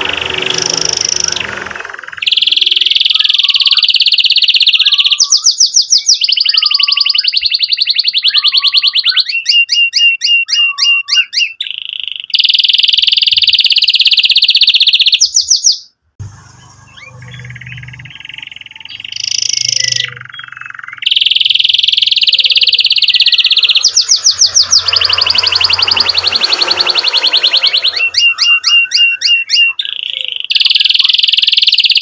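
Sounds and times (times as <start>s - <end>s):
canary chipping notes: 0.0s - 32.0s
canary singing rapid trills: 0.0s - 32.0s.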